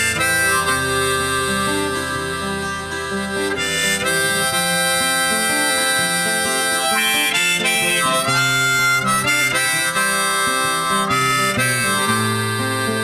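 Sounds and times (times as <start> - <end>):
instrumental music melody over chords: 0.0 - 13.0.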